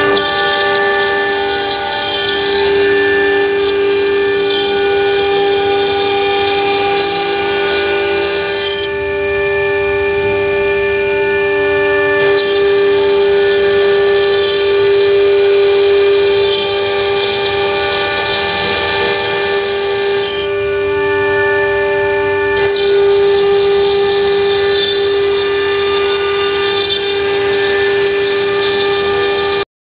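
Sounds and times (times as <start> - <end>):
engraving spindle high whine: 0.0 - 29.7.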